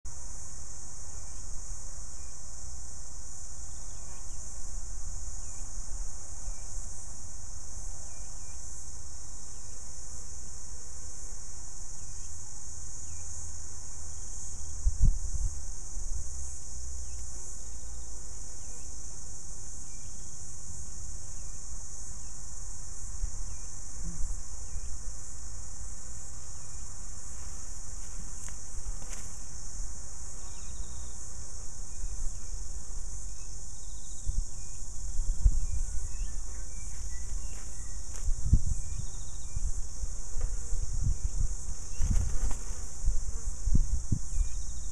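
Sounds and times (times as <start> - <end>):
high-pitched insect chorus: 0.1 - 44.9.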